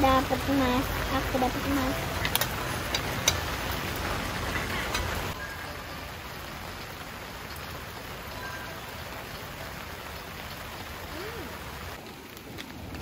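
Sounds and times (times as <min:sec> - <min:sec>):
sharp raindrop taps: 0:00.0 - 0:13.0
steady rain falling: 0:00.0 - 0:13.0.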